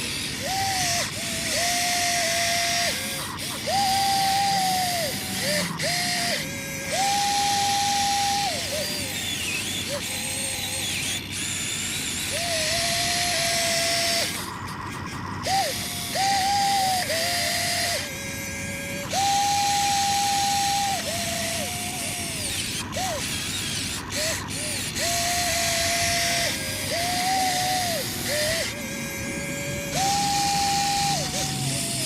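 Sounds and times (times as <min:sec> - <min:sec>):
toy excavator motors whining: 0:00.0 - 0:32.0.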